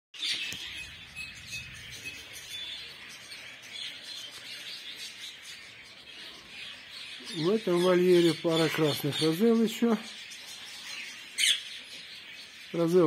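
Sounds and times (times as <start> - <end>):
background bird chatter: 0.2 - 13.0
high bird chirps: 0.2 - 13.0.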